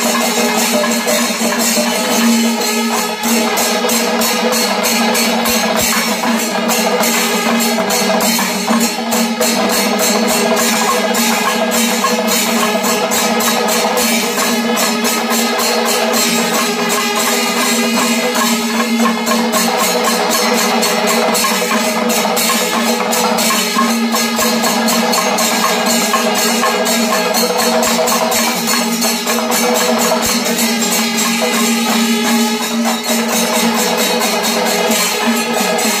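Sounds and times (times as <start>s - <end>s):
jingling cymbal beats: 0.0s - 36.0s
rapid drum strokes: 0.0s - 36.0s.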